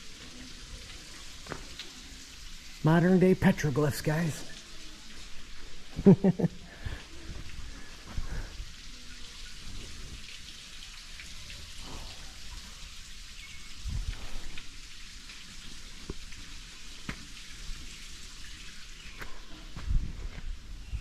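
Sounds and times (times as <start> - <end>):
drip-like ticks: 0.0 - 3.2, 4.3 - 20.4
falling water hiss: 0.0 - 21.0.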